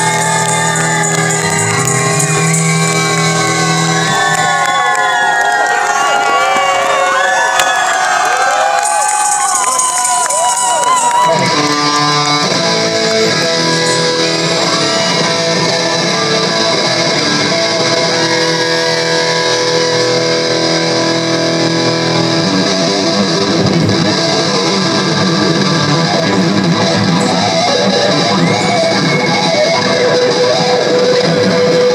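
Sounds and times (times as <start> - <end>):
live rock band: 0.0 - 5.2, 8.8 - 31.9
electric guitar chords: 0.0 - 6.0, 8.8 - 31.9.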